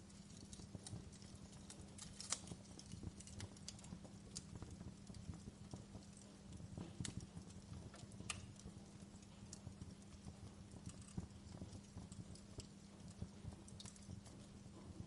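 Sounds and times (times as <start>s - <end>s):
campfire wood crackling and popping: 0.0s - 15.0s
faint steady hum: 0.0s - 15.0s.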